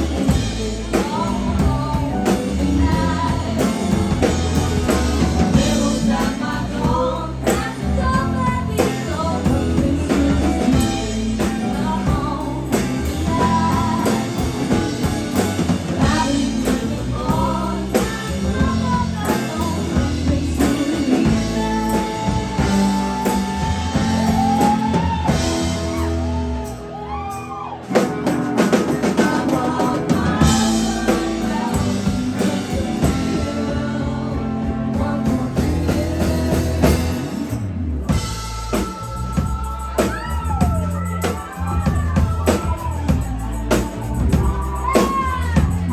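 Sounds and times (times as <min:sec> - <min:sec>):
drum kit: 0:00.0 - 0:45.9
guitar: 0:00.0 - 0:45.9
person singing: 0:00.0 - 0:45.9.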